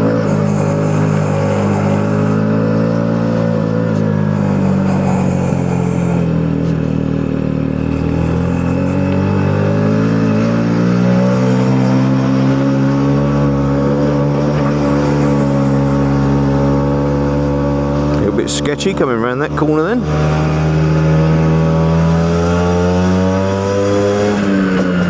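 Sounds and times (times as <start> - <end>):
two-stroke motorcycle engine under load: 0.0 - 25.0.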